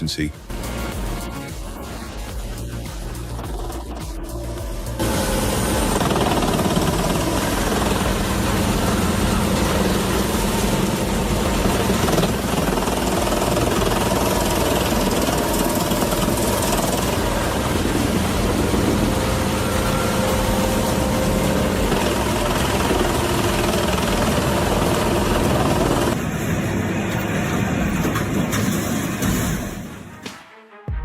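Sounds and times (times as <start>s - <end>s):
diesel engine hum: 0.0s - 29.4s
wood chipper grinding: 2.6s - 30.0s.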